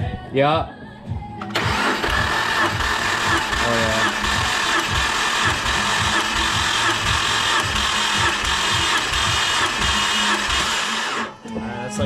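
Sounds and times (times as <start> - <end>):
engine cranking chugging: 1.4 - 11.4
starter motor whine: 1.4 - 11.5.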